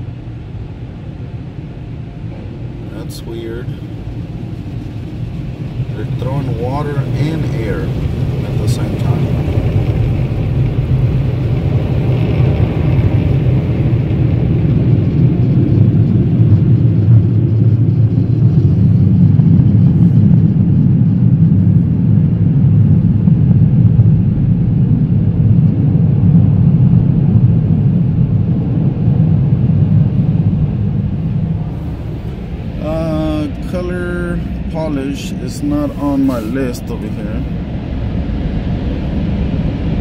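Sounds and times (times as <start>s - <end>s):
car wash air dryer blowers: 0.0s - 26.2s, 27.0s - 40.0s.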